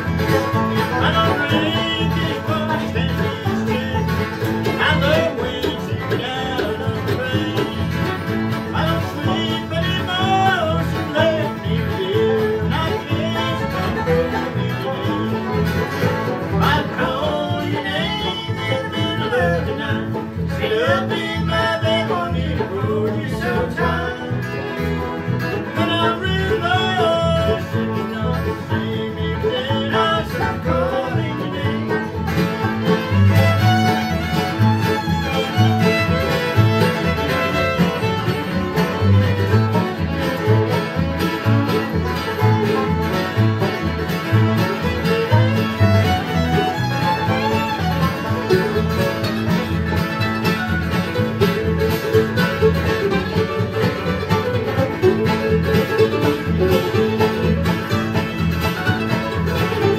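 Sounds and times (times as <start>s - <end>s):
acoustic guitars: 0.0s - 59.9s
banjo: 0.0s - 59.9s
fiddle: 0.0s - 59.9s
plucked upright bass: 0.0s - 59.9s.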